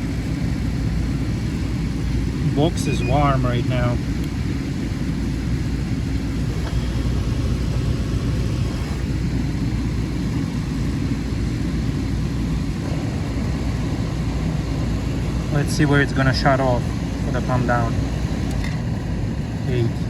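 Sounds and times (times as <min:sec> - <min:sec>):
compressor hum: 0:00.0 - 0:20.0
condenser fan rushing: 0:00.0 - 0:20.0.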